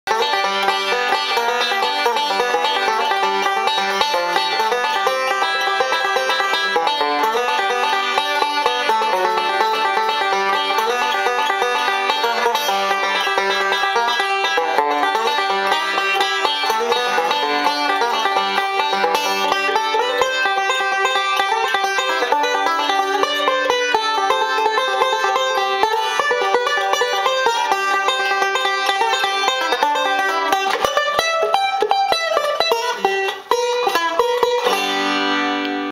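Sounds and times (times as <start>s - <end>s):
banjo fingerpicked: 0.1s - 35.9s.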